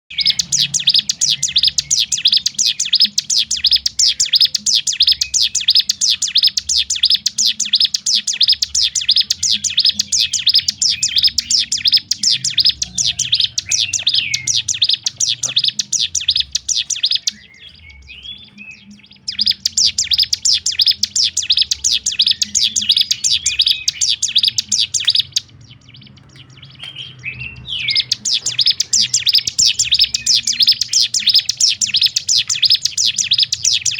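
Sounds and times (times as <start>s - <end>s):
bird singing sharp repeated notes: 0.0s - 33.9s
soft bird calls: 0.0s - 33.9s.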